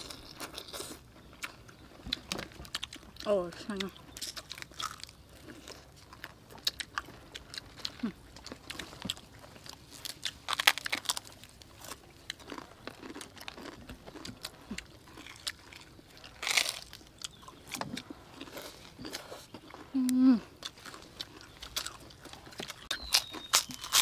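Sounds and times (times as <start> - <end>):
crunchy food chewing: 0.0 - 24.0.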